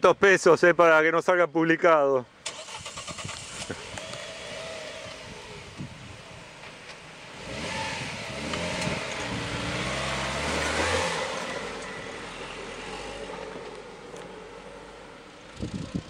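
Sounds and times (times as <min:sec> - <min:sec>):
car engine revving under load: 0:02.5 - 0:16.0.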